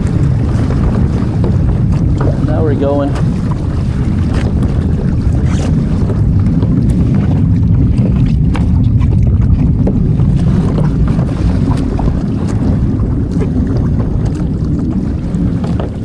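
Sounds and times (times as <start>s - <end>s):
water splashing against hull: 0.0s - 16.0s
wind buffeting microphone: 0.0s - 16.0s.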